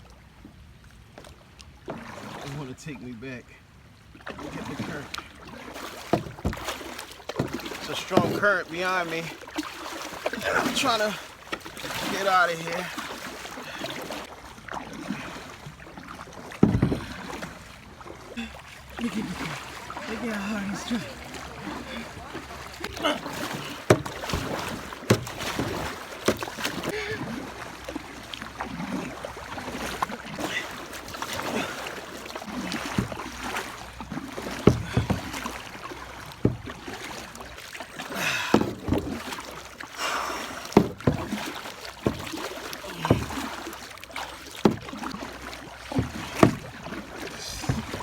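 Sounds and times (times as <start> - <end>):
kayak paddles splashing: 0.0 - 48.0
rushing river current: 1.9 - 48.0
paddle knocks: 4.2 - 48.0.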